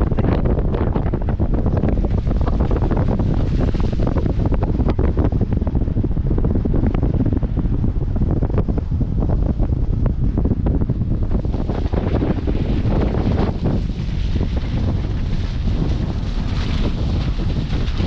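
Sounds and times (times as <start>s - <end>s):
wind buffeting a microphone: 0.0s - 18.0s.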